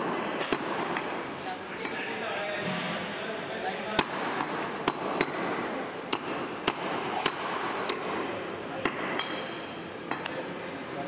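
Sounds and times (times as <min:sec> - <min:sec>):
murmur of voices: 0:01.1 - 0:11.0.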